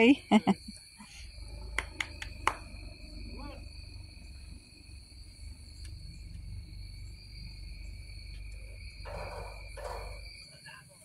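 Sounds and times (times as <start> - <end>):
insects trilling: 0.0 - 11.0
low rumble: 1.3 - 10.2.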